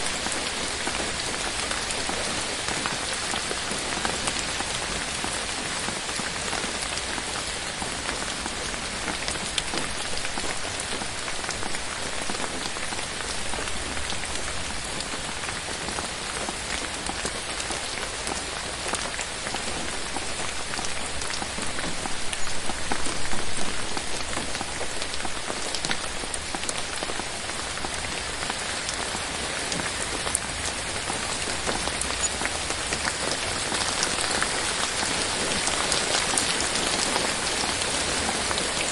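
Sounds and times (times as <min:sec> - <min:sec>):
rain on foliage: 0:00.0 - 0:38.9.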